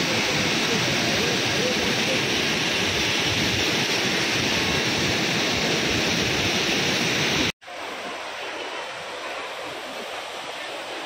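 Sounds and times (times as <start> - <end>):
waterfall and river rushing: 0.0 - 11.0.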